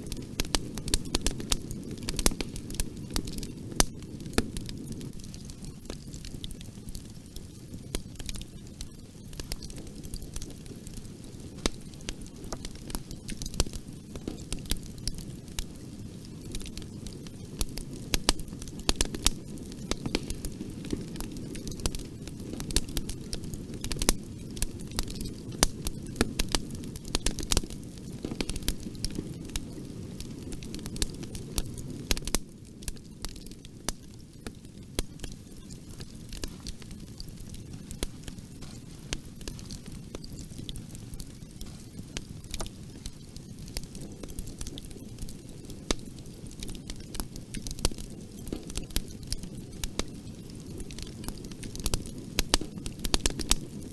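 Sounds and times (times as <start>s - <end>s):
fire pops and snaps: 0.0s - 53.9s
low rumble of flames: 0.0s - 53.9s
wood fire crackling: 0.0s - 53.9s.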